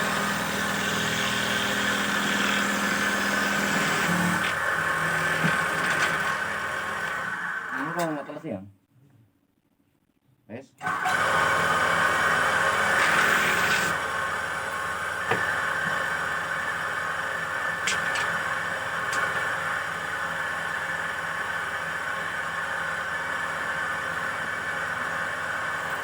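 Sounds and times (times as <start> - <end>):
dowel machine motor whirring: 0.0 - 8.4, 10.8 - 26.0.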